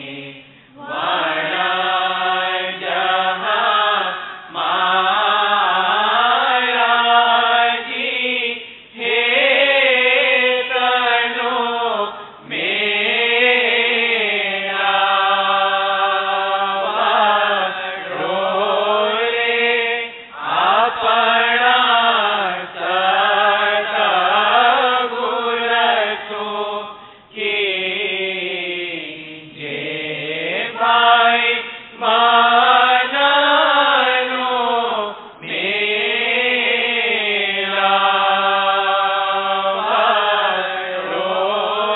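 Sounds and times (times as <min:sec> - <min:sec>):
person chanting: 0:00.0 - 0:41.9.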